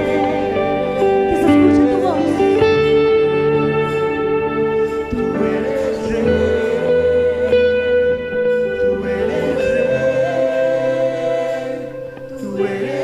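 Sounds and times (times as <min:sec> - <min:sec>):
bass line: 0:00.0 - 0:12.7
sustained electric guitar notes: 0:00.0 - 0:13.0.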